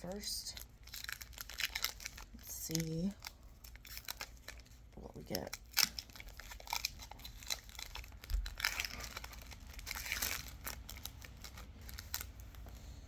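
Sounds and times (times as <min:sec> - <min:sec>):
foil wrapper tearing and crinkling: 0:00.1 - 0:12.6.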